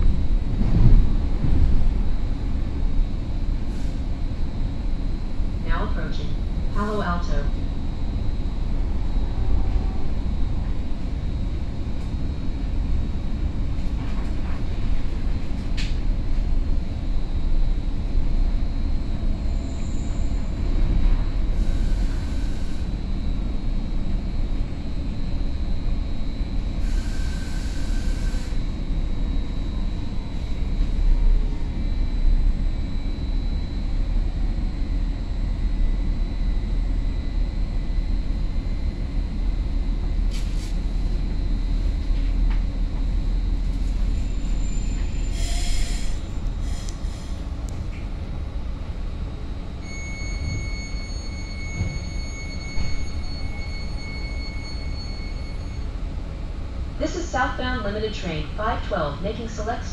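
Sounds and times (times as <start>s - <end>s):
train wheels rumbling on rails: 0.0s - 6.8s, 7.6s - 59.9s.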